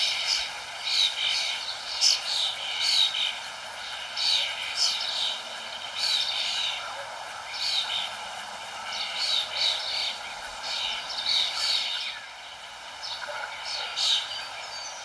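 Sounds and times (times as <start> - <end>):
songbirds chirping: 0.0 - 15.0
steady background hiss: 0.0 - 15.0.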